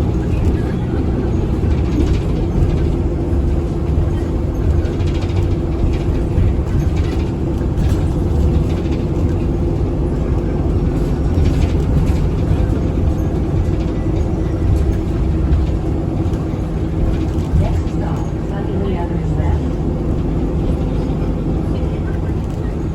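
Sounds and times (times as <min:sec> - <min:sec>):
bus engine rumble: 0:00.0 - 0:22.9
mid-pitched hum: 0:00.0 - 0:22.9.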